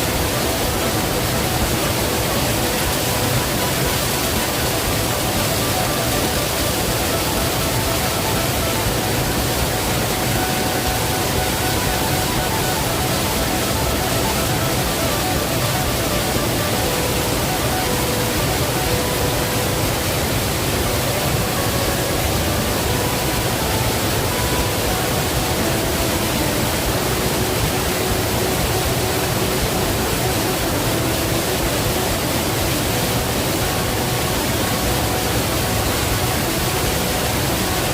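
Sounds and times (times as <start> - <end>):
waterfall rushing and splashing: 0.0 - 37.9.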